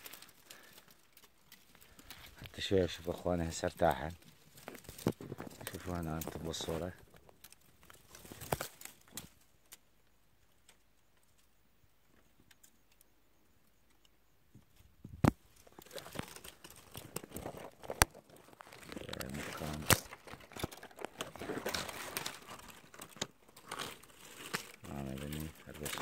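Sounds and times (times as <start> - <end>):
crackling and rustling: 0.0 - 13.1, 13.7 - 26.0.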